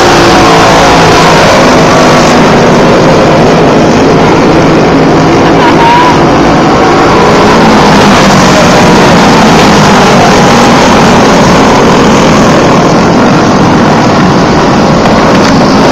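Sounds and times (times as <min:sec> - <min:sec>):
go-kart engines racing past: 0:00.0 - 0:15.9.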